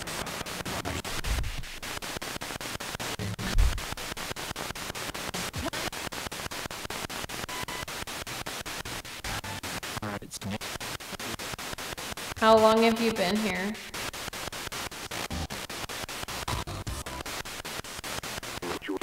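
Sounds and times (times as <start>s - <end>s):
radio static with rapid clicks: 0.0s - 19.0s.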